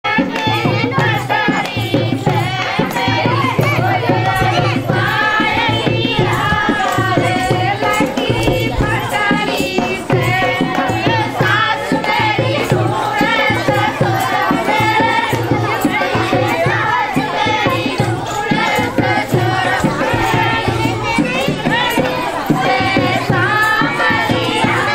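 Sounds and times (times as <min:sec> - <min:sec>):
hand drum beating rhythm: 0:00.1 - 0:24.9
women singing folk song: 0:00.1 - 0:24.9.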